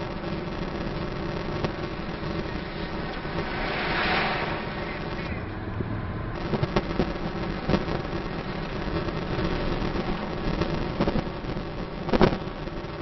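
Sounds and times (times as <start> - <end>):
car engine and road noise: 0.0 - 13.0
rush of noise: 0.0 - 13.0.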